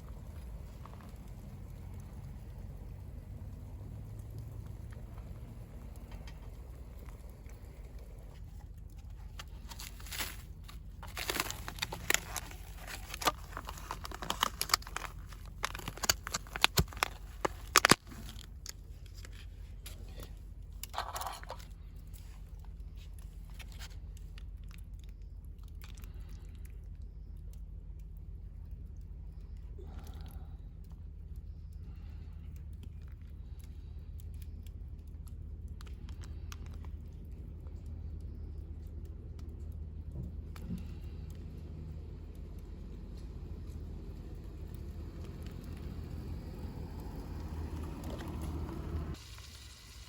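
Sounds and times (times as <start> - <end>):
crunching and crinkling: 0.0 - 49.2
steady low rumble: 0.0 - 49.3.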